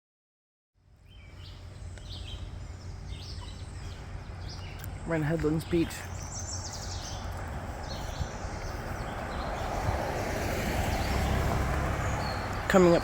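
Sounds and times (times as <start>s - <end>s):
faint birds chirping: 0.8s - 13.0s
vehicle approaching: 1.0s - 13.0s.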